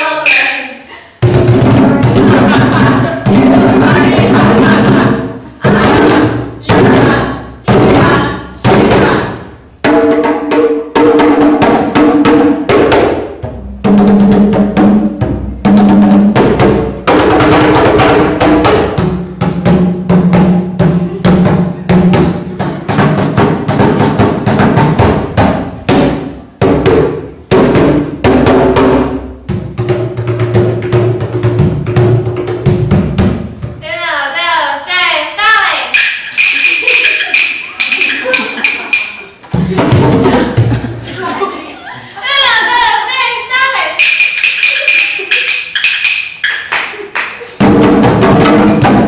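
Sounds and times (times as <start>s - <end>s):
djembes drumming: 0.0s - 33.8s, 35.9s - 42.1s, 43.9s - 49.0s.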